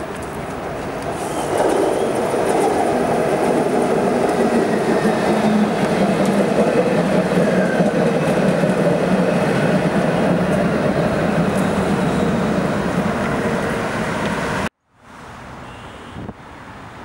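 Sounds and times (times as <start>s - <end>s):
tram rolling on rails: 0.0s - 14.7s.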